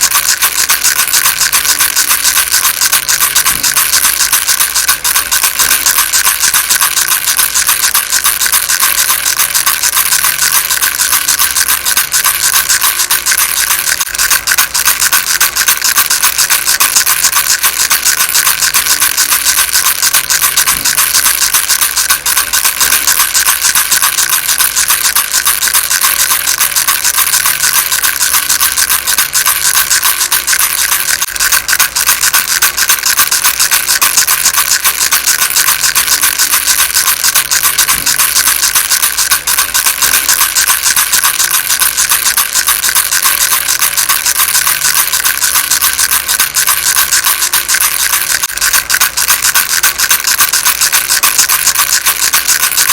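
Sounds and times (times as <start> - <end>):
baby rattle shaken: 0.0 - 52.9.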